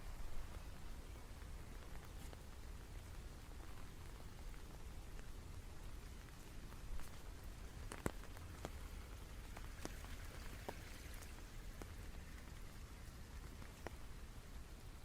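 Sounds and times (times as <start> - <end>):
faint steady hiss: 0.0 - 15.0
raindrops ticking: 0.0 - 15.0.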